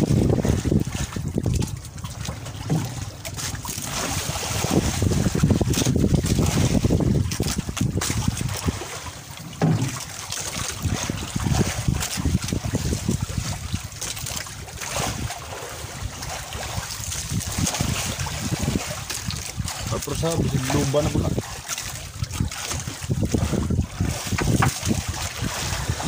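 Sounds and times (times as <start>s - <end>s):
water splashing against hull: 0.0s - 26.0s
wind buffeting microphone: 0.0s - 26.0s.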